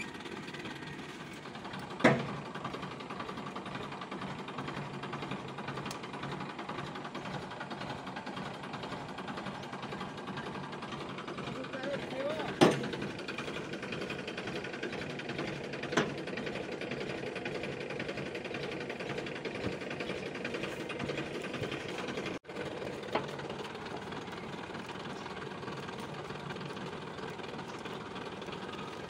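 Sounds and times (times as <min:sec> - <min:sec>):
diesel tractor engine idling: 0:00.0 - 0:29.0.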